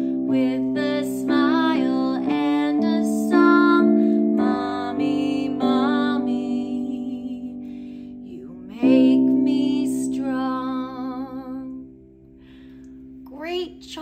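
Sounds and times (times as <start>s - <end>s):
woman singing children's song: 0.0s - 11.9s, 13.2s - 14.0s
sustained piano chords: 0.0s - 14.0s.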